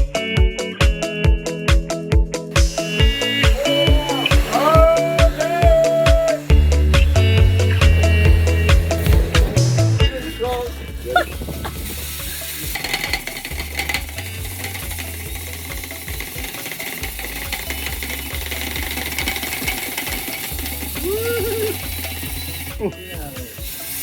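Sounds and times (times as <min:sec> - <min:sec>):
background music with bass line: 0:00.0 - 0:24.0
scraping and rattling in duct: 0:02.6 - 0:24.0.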